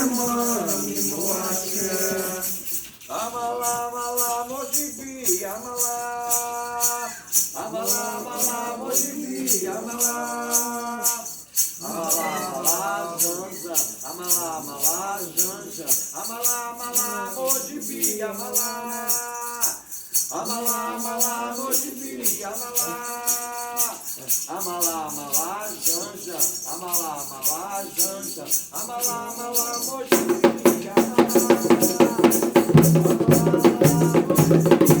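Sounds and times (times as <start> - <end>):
shaken rattle: 0.0 - 35.0
voices singing: 0.0 - 35.0.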